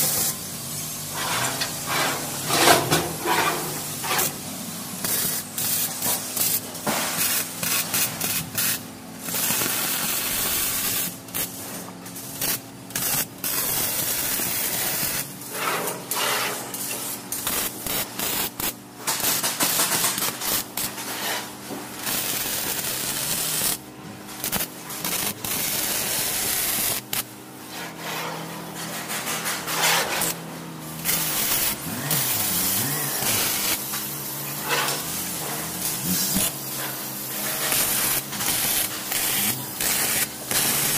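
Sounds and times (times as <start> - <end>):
welding arc crackling and hissing: 0.0 - 40.9.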